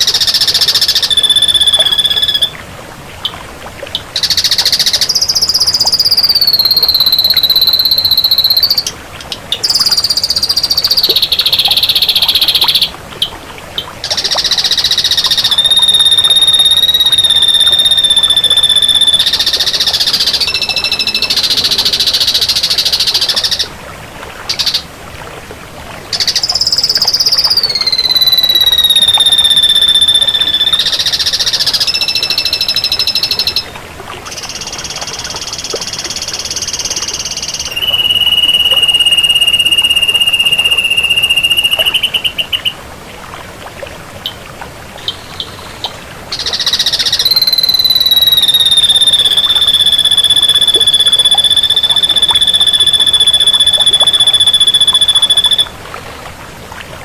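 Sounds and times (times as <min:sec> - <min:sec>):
bird whistling and trilling: 0:00.0 - 0:02.6, 0:04.0 - 0:13.4, 0:14.0 - 0:23.7, 0:24.5 - 0:24.9, 0:26.1 - 0:42.8, 0:45.0 - 0:55.7.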